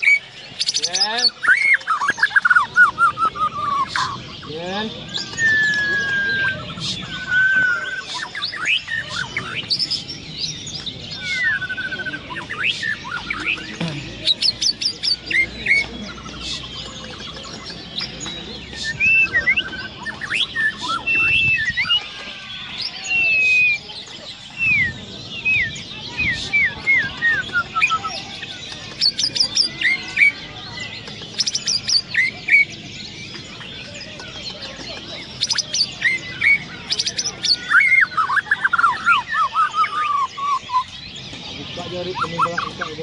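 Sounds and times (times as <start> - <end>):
bird singing whistled phrases: 0.0 - 17.8, 18.6 - 22.1, 22.8 - 30.4, 33.8 - 43.0.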